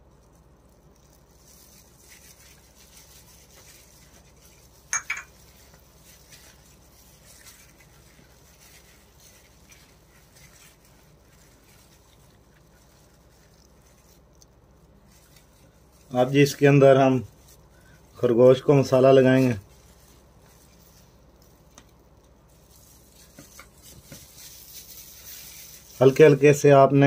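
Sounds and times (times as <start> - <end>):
gloved hand mixing spice paste: 0.0 - 27.0.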